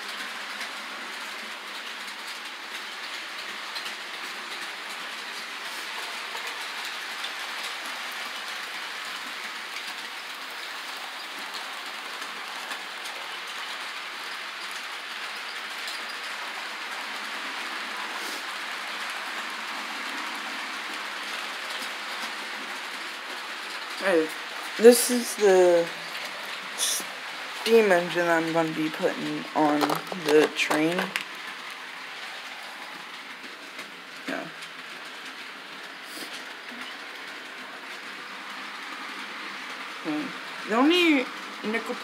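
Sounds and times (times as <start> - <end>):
model train rolling on rails: 0.0 - 42.0.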